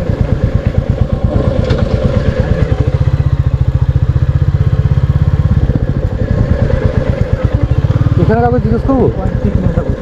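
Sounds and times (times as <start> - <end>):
motorcycle engine thumping: 0.0 - 10.0.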